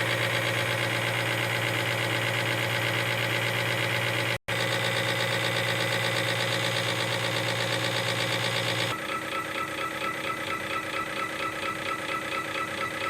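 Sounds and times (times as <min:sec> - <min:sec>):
diesel pump test bench running: 0:00.0 - 0:13.0.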